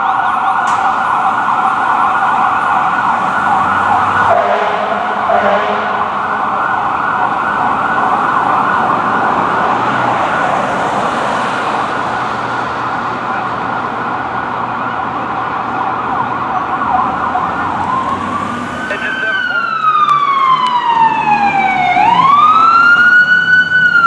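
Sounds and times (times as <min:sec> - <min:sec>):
emergency vehicle sirens: 0:00.0 - 0:24.0.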